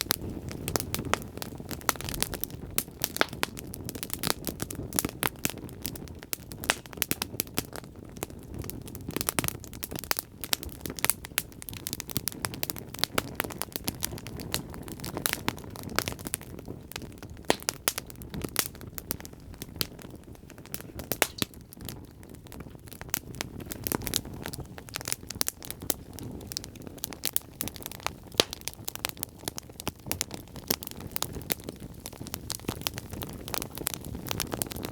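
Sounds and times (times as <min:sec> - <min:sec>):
low rumble of flames: 0:00.0 - 0:34.9
wood fire crackling and popping: 0:00.0 - 0:34.9.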